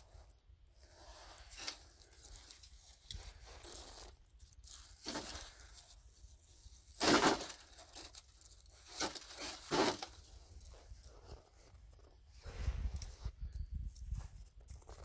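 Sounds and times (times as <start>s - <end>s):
logs scraping and crunching: 0.0s - 13.2s.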